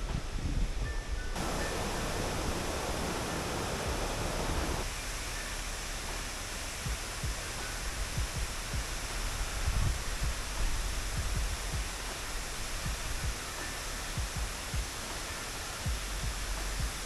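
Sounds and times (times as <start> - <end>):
waterfall rushing: 1.4 - 17.0.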